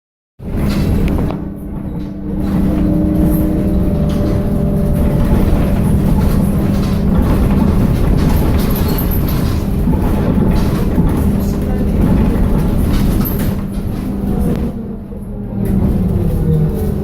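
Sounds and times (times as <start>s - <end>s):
bus body rumbling and rattling: 0.4s - 17.0s
high humming tones: 0.7s - 15.3s.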